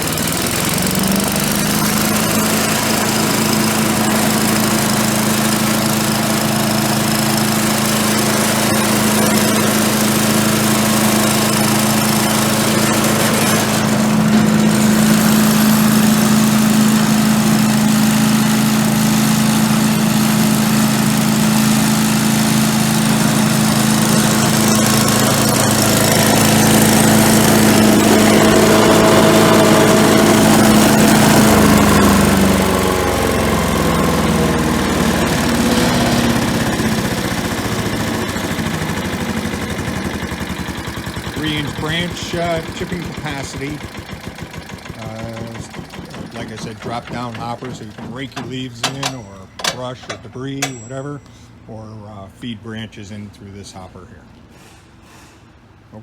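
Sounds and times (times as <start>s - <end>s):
chipper shredder engine running: 0.0s - 51.6s.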